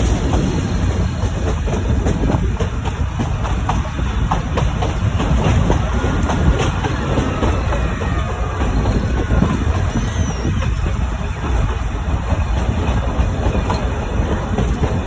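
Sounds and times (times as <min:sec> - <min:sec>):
train carriages rumbling: 0:00.0 - 0:15.0
wheels clicking on rails: 0:00.0 - 0:15.0.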